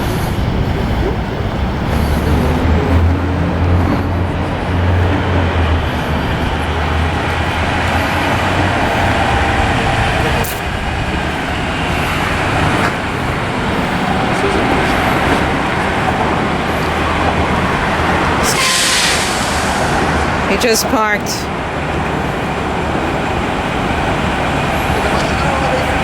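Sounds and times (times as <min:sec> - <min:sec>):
diesel truck engine rumble: 0:00.0 - 0:26.0
steady rushing noise: 0:00.0 - 0:26.0.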